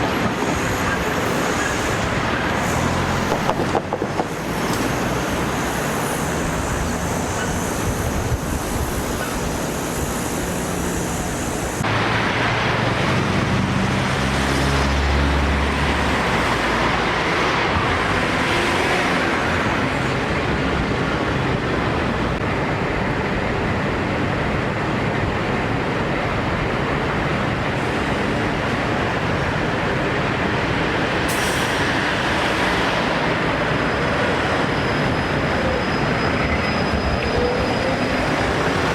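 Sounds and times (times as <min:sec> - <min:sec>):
passing vehicles: 0:00.0 - 0:38.9.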